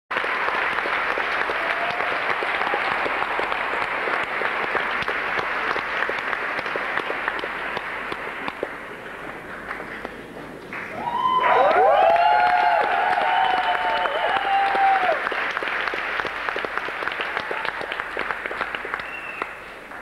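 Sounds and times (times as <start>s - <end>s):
audience applauding: 0.1s - 20.0s.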